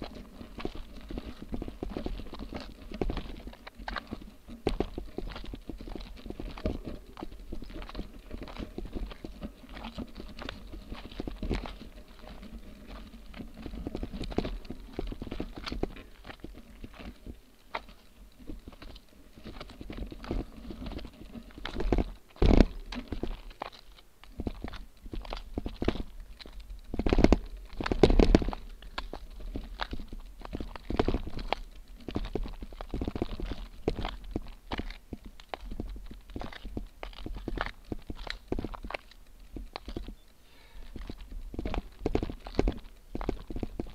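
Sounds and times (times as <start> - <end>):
bike tyre crunching on gravel: 0.0 - 43.9
stones clicking and rattling: 0.0 - 43.9.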